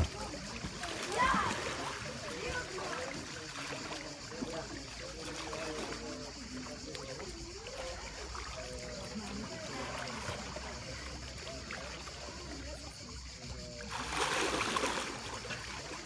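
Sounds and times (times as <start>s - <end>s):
pool water lapping: 0.0s - 16.0s
splash into water: 0.0s - 16.0s.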